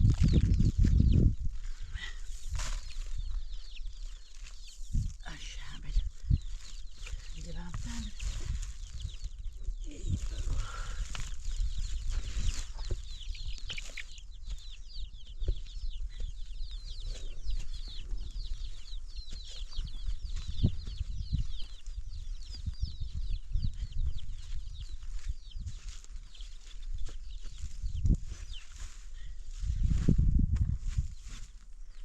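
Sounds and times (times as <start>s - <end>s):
birds chirping: 0.0s - 30.2s.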